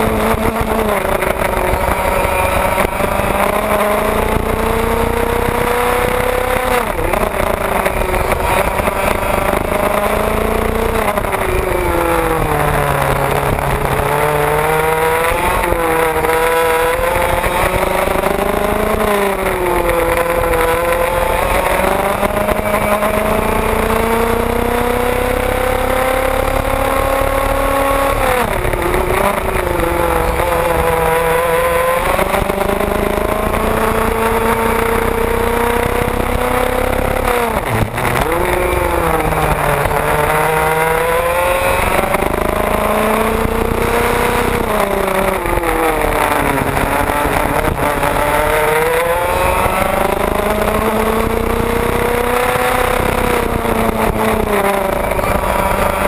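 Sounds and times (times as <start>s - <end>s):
kart engine revving: 0.0s - 56.0s
other karts passing: 0.0s - 56.0s.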